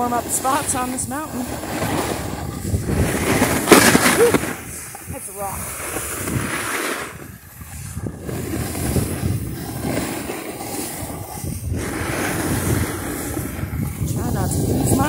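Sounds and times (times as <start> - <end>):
snowboard scraping over snow: 0.0 - 15.0
wind rushing over microphone: 0.0 - 15.0.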